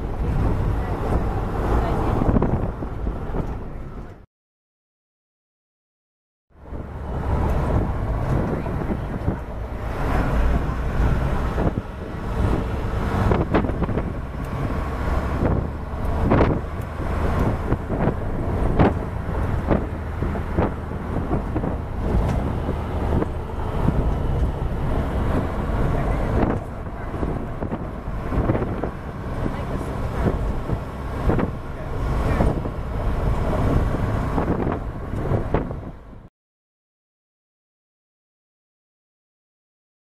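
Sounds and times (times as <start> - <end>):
wind buffeting microphone: 0.0 - 4.2, 6.6 - 36.3
vehicle rumbling: 0.0 - 4.3, 6.5 - 36.3.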